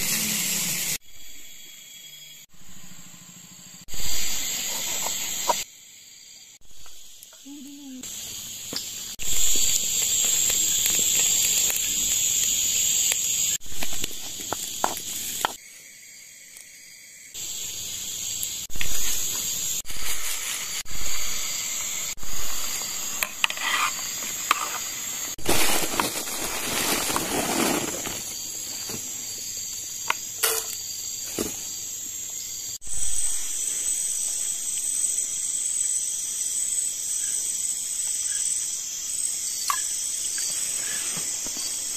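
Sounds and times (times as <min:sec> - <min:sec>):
insect chorus buzzing: 0:00.0 - 0:41.9.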